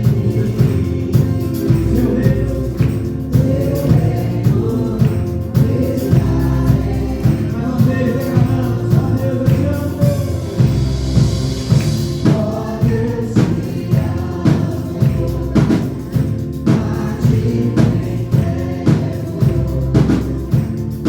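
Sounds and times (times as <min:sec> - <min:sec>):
choir singing gospel song: 0:00.0 - 0:21.0
drum kit beat: 0:00.0 - 0:21.0.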